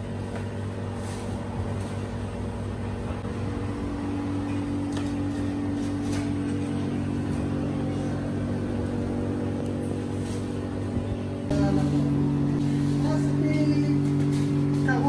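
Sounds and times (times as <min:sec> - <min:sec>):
kitchen appliances humming: 0:00.0 - 0:15.0.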